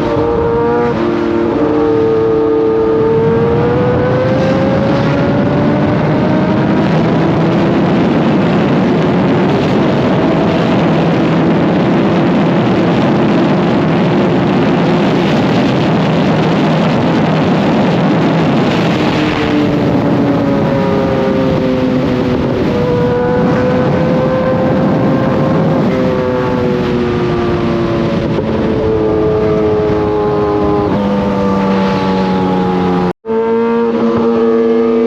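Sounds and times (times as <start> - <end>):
motorcycle engine running: 0.0 - 35.0
wind rushing: 0.0 - 35.0.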